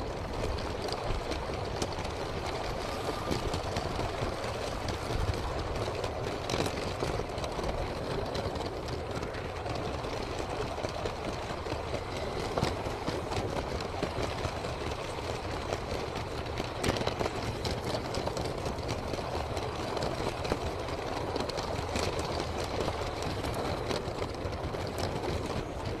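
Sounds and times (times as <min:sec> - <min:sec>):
toy train motor running: 0:00.0 - 0:26.0.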